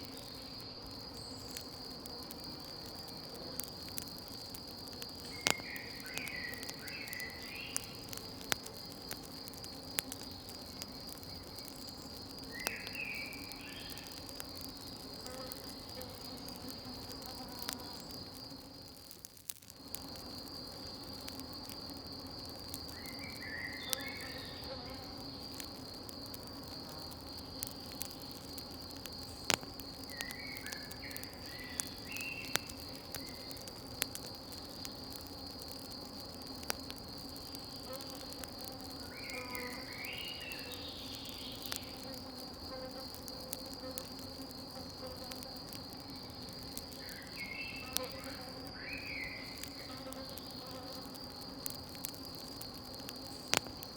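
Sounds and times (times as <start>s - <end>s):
campfire crackling: 0.0s - 53.9s
crickets chirring: 0.0s - 53.9s.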